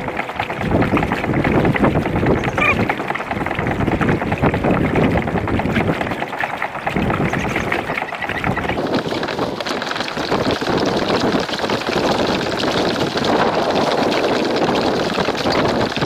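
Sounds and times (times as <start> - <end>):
water rushing along kayak hull: 0.0 - 16.0
wind buffeting microphone: 0.0 - 16.0.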